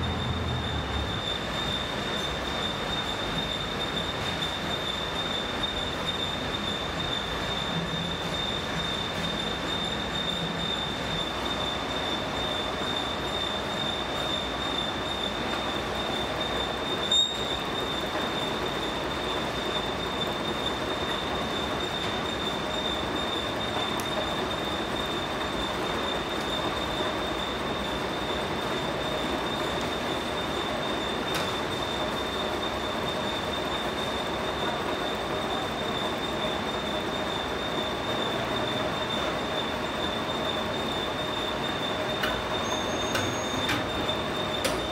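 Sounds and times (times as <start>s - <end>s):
hydraulic press whine: 0.0s - 44.9s.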